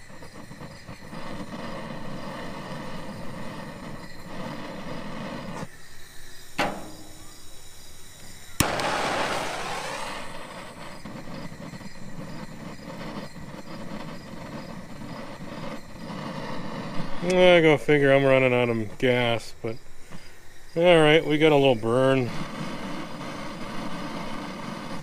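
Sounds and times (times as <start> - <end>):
flame rush igniting: 0.0 - 5.7, 6.4 - 19.4, 20.0 - 25.0
propane torch flame hissing: 0.0 - 25.0.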